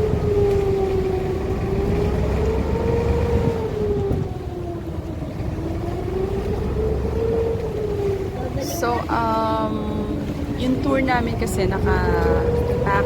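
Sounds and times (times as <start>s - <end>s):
boat motor rumble and whine: 0.0s - 13.0s.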